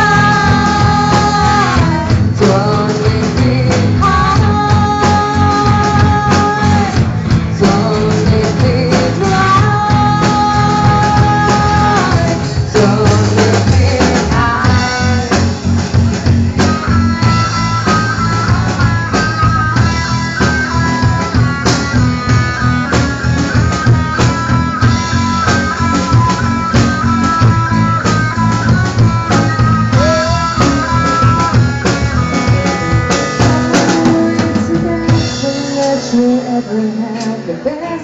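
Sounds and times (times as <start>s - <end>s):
bass and drums: 0.0s - 38.0s
guitar melody: 0.0s - 38.0s.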